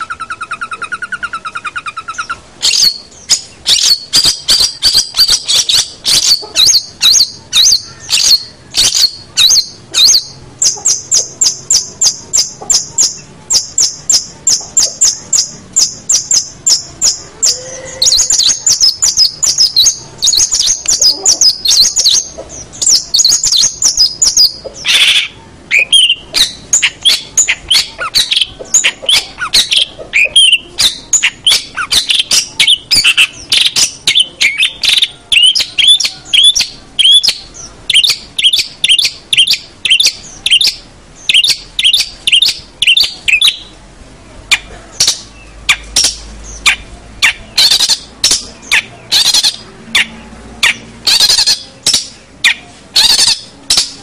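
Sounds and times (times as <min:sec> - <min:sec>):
shrike singing fast chatter: 0:00.0 - 0:43.8, 0:44.5 - 0:54.0.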